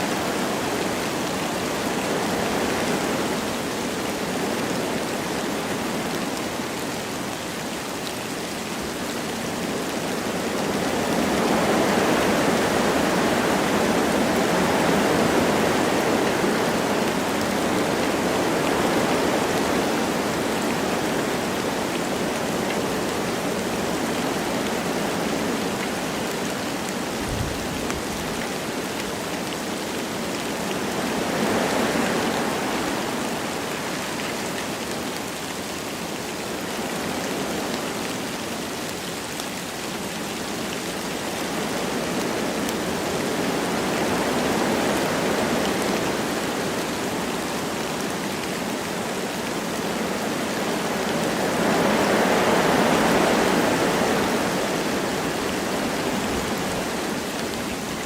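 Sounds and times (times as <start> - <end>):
light rain: 0.0 - 58.0
wind through trees: 0.0 - 58.0.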